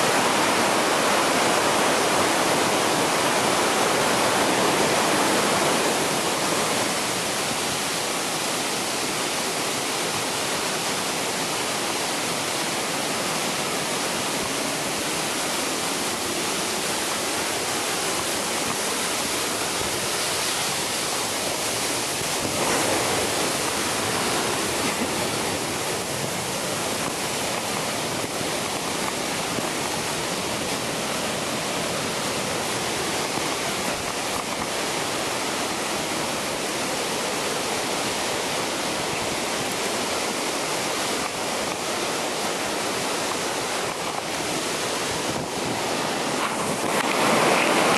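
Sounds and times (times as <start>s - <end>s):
waterfall rushing: 0.0s - 47.9s
whitewater creek: 0.0s - 47.9s.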